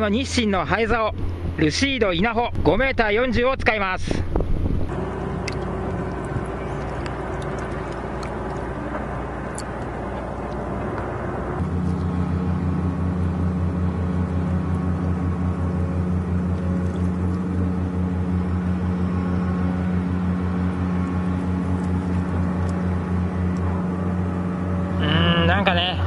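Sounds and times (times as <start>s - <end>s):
engine droning with throb: 0.0s - 26.0s.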